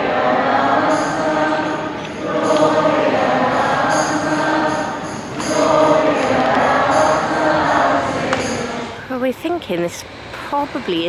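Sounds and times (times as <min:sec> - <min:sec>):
choir singing held notes: 0:00.0 - 0:09.3.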